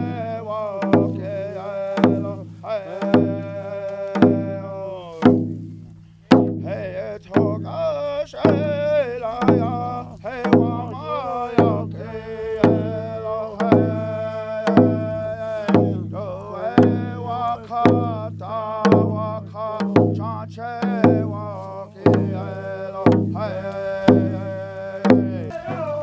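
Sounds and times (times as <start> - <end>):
group of voices singing: 0.0 - 5.4, 6.6 - 26.0
drum beating steadily: 0.0 - 26.0.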